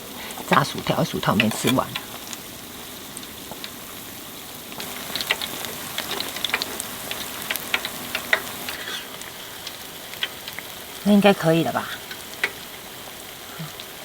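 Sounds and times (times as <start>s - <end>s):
shrimp deep-frying in oil: 0.0s - 14.0s.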